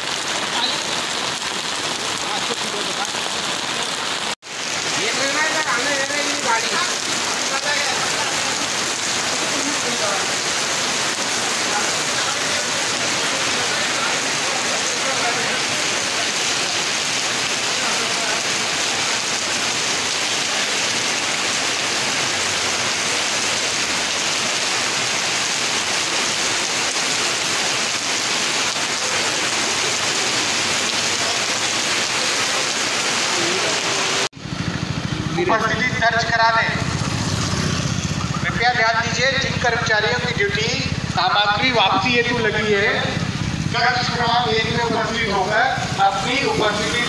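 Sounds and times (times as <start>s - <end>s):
rain on pavement: 0.0s - 47.0s.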